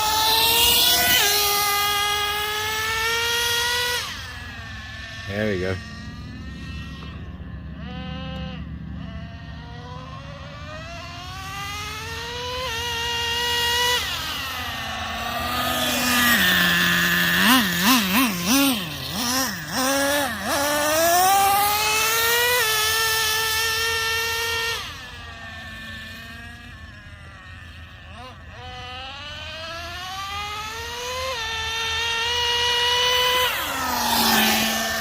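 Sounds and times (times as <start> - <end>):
nitro engine revving: 0.0 - 35.0.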